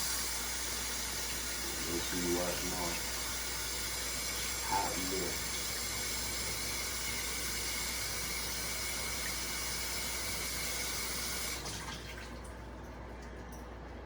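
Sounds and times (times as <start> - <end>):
kitchen tap running: 0.0 - 12.5.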